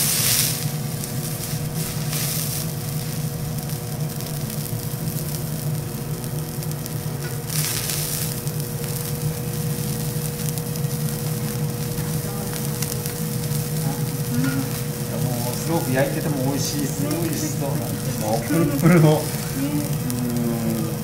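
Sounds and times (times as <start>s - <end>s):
steak sizzling on griddle: 0.0s - 21.0s
low hum: 0.6s - 21.0s.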